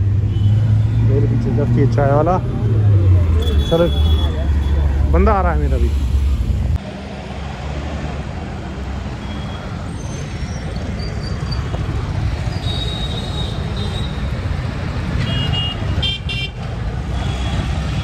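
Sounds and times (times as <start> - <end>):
street traffic passing: 0.0 - 18.0.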